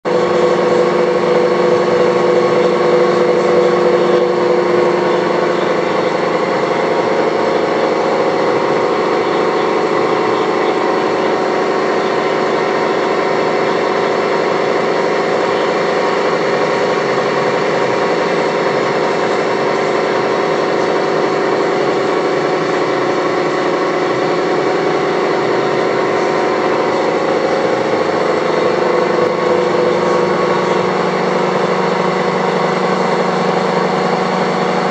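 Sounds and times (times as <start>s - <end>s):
boring mill machine hum: 0.0s - 34.9s
machine whining tones: 0.0s - 34.9s.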